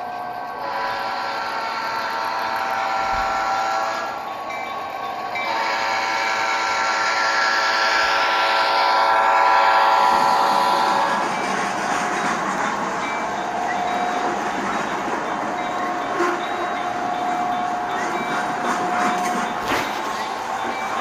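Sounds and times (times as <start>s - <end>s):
model train steady tones: 0.0s - 21.0s.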